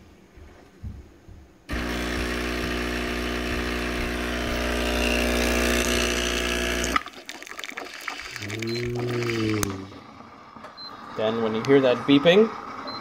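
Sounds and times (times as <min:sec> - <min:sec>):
espresso machine pump humming: 0:01.7 - 0:13.0.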